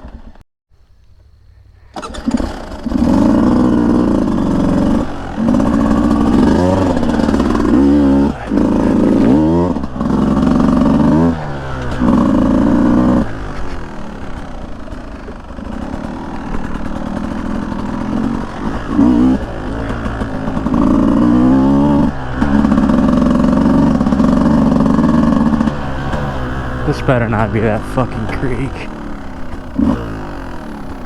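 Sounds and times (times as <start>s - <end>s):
dirt bike engine revving: 1.9s - 31.0s.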